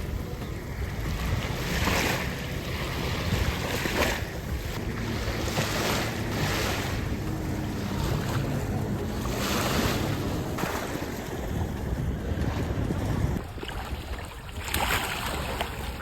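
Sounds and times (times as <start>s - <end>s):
waves washing onto sand: 0.0s - 13.4s
wind rumbling on microphone: 0.0s - 16.0s.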